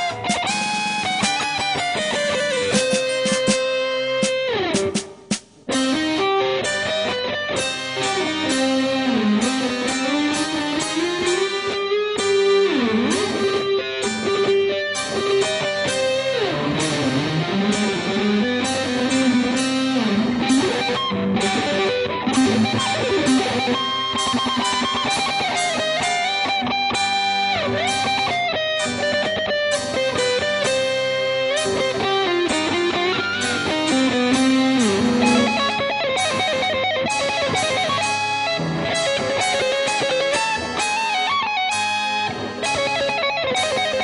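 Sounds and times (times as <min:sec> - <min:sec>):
electric guitar melody: 0:00.0 - 0:44.0.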